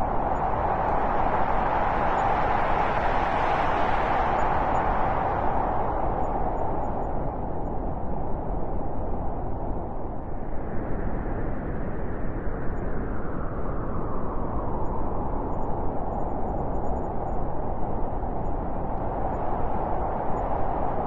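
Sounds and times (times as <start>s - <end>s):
blizzard wind blowing hard: 0.0s - 21.0s.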